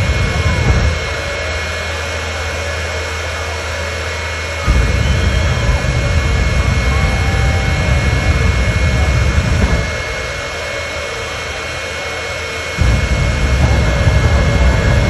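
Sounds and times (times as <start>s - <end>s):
steady high whine: 0.0s - 15.0s
truck diesel engine roaring: 0.0s - 15.0s.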